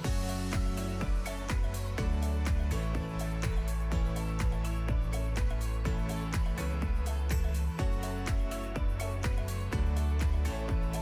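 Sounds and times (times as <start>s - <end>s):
music with steady beat: 0.0s - 11.0s
sustained bass line: 0.0s - 11.0s.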